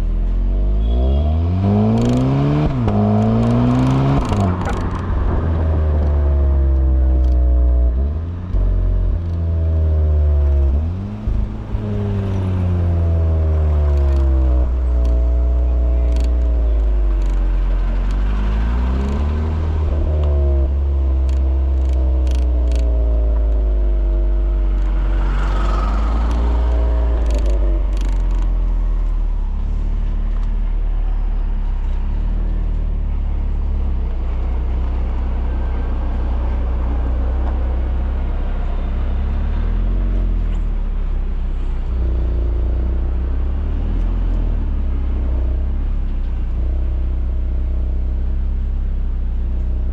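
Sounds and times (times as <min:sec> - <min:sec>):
car engine and exhaust: 0:00.0 - 0:49.9.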